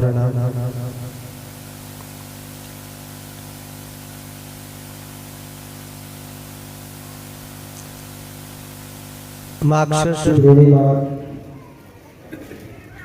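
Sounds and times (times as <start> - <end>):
steady hiss: 0.0 - 10.4
low electrical hum: 0.0 - 13.0.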